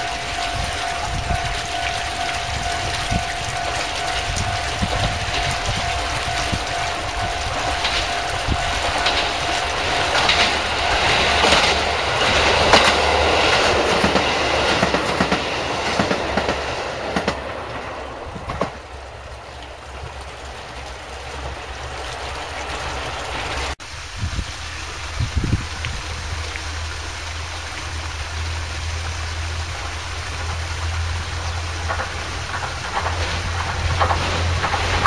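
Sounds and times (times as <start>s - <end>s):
diesel railcar engine: 0.0s - 23.8s, 24.4s - 35.0s
wheels clicking over rail joints: 0.0s - 23.8s, 29.0s - 35.0s.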